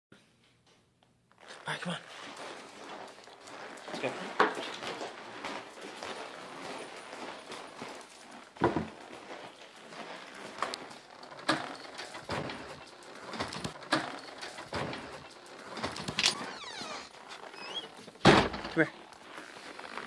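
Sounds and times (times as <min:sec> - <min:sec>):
footsteps on tiled floor: 0:00.5 - 0:18.3, 0:18.9 - 0:20.0.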